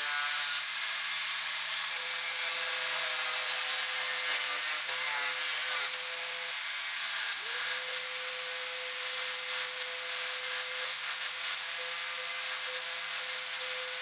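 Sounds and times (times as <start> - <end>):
circular saw whining: 0.0 - 14.0
hiss of blade cutting plastic: 0.0 - 14.0.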